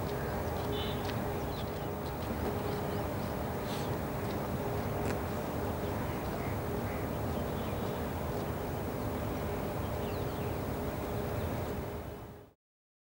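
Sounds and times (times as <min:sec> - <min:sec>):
faint hum: 0:00.0 - 0:12.6.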